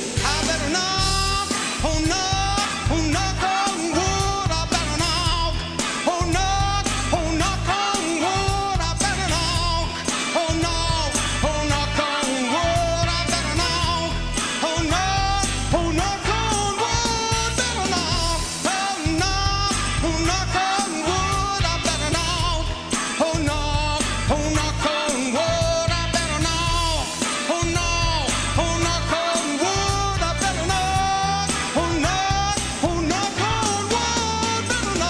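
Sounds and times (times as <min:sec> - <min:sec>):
instrumental accompaniment: 0:00.0 - 0:35.0
man singing soul rock song: 0:00.0 - 0:35.0.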